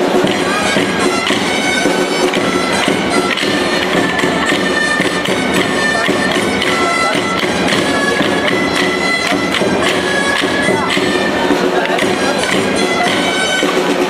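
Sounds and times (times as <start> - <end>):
reedy wind instrument melody: 0.0 - 14.0
sharp percussive strikes: 0.0 - 14.0.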